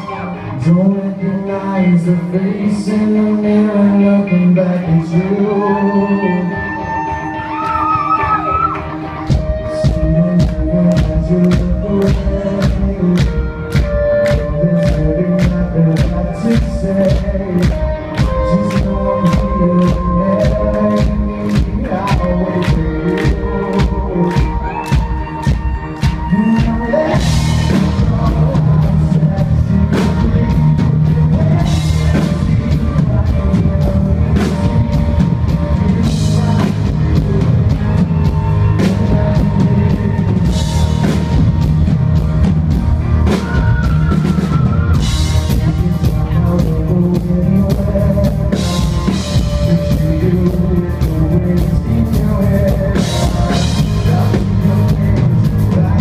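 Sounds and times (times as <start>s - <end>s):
electric guitar: 0.0s - 56.0s
heavy bass line: 0.0s - 56.0s
live rock band playing: 0.0s - 56.0s
pounding drum kit: 9.3s - 56.0s.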